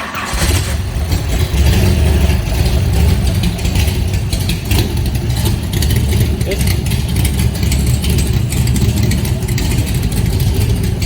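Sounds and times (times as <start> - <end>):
loud car engine running: 0.0 - 11.0.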